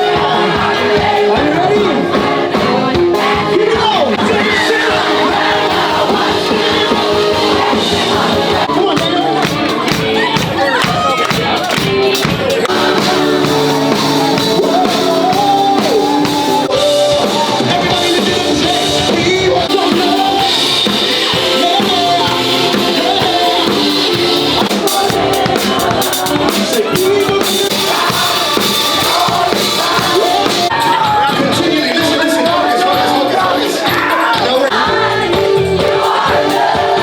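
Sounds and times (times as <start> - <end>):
drum kit: 0.0 - 37.0
live worship band playing: 0.0 - 37.0
person singing: 0.0 - 37.0.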